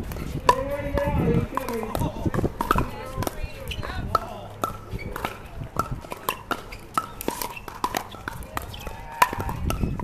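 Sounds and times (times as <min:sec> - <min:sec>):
paddles hitting plastic ball: 0:00.0 - 0:10.0.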